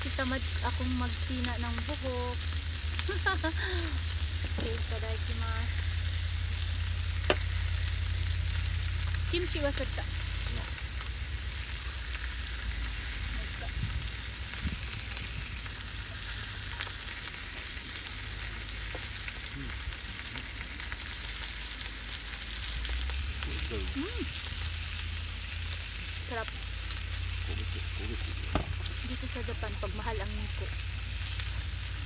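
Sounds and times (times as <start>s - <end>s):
low rumble of burner: 0.0s - 32.0s
meat sizzling in a pan: 0.0s - 32.0s.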